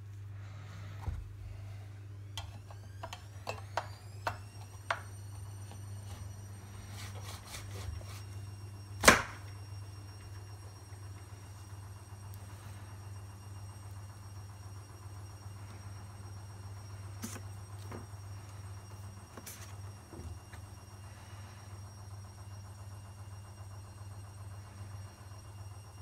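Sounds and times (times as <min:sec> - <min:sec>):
high whine: 0:00.0 - 0:26.0
low hum: 0:00.0 - 0:26.0.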